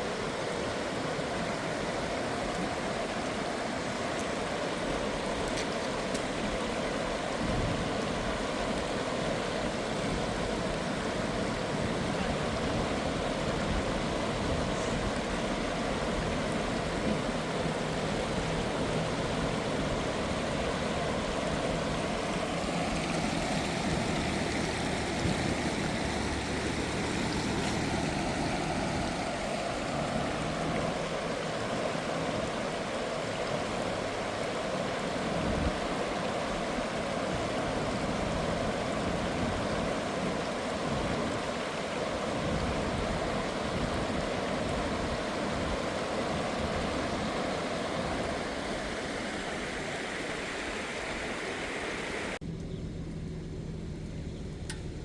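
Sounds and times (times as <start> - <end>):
river rushing in flood: 0.0 - 52.4.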